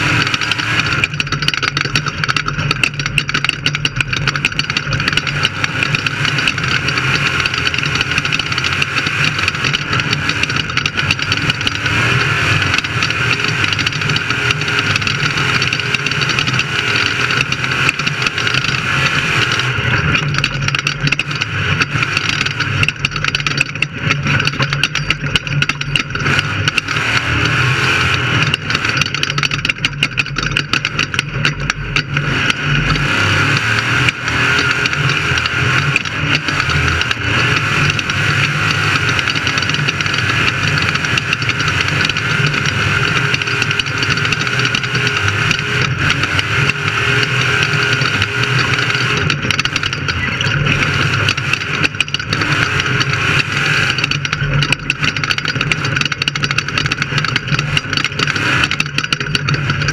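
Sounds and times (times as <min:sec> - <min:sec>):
rushing noise: 0:00.0 - 0:03.0, 0:03.9 - 0:25.2, 0:26.0 - 0:29.8, 0:32.0 - 0:56.0
race vehicle engine running: 0:00.0 - 0:59.9
rattle from rough ride: 0:00.0 - 0:59.9.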